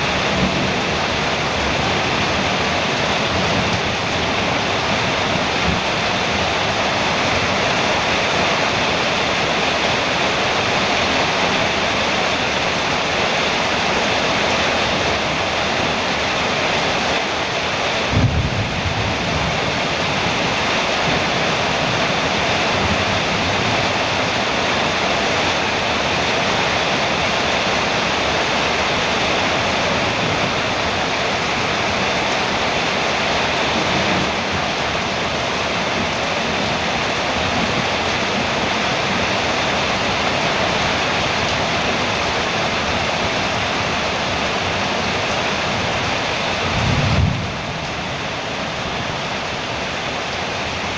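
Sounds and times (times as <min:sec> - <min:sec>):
heavy rain on a metal roof: 0:00.0 - 0:50.9.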